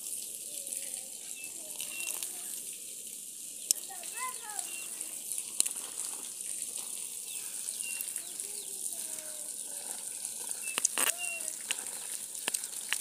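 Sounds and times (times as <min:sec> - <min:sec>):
steady high hiss: 0:00.0 - 0:13.0
birds chirping: 0:00.5 - 0:02.5, 0:03.6 - 0:12.4.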